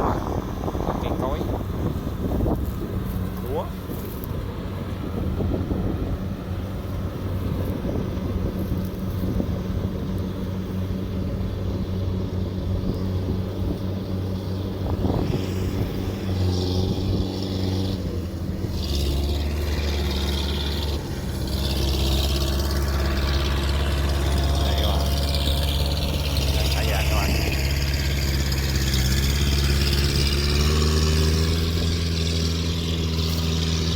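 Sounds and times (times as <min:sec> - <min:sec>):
deeper drone: 0:00.0 - 0:33.9
diesel engine running: 0:00.0 - 0:33.9.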